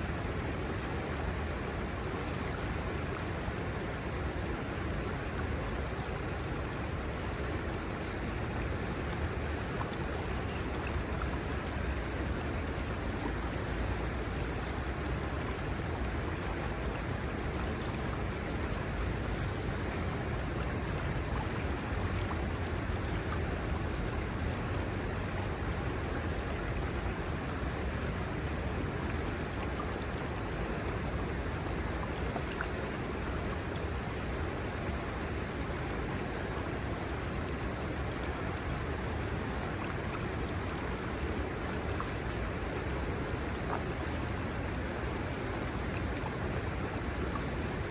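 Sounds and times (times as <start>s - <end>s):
river water rushing over shallows: 0.0s - 47.9s.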